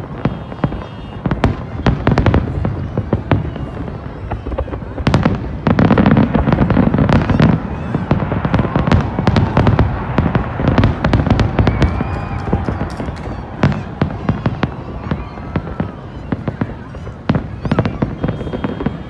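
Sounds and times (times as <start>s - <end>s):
fireworks bangs and cracks: 0.0s - 19.0s.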